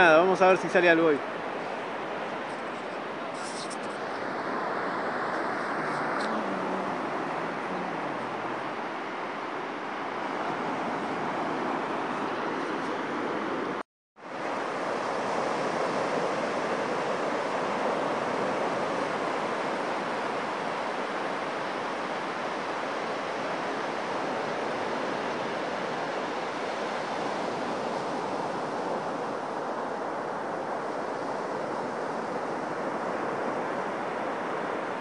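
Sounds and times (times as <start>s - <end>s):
surf breaking on beach: 0.0s - 35.0s.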